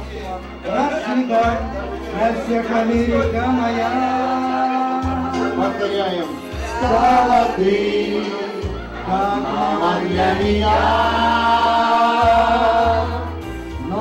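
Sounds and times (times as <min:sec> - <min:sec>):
instrumental accompaniment with bass: 0:00.0 - 0:14.0.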